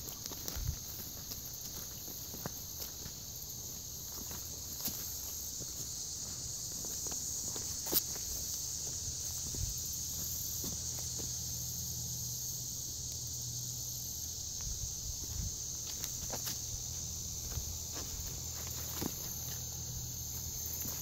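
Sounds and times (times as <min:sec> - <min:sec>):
footsteps rustling through leaves: 0:00.0 - 0:11.4, 0:15.1 - 0:21.0
insect chorus drone: 0:00.0 - 0:21.0.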